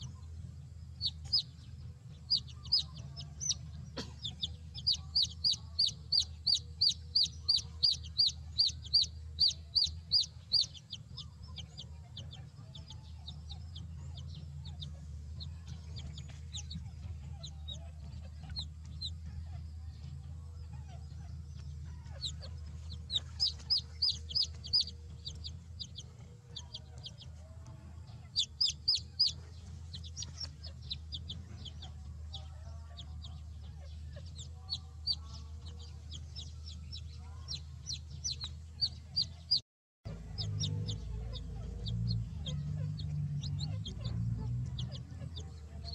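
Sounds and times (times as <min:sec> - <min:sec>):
baby chicks peeping: 0:00.0 - 0:45.9
steady low rumble: 0:00.0 - 0:45.9.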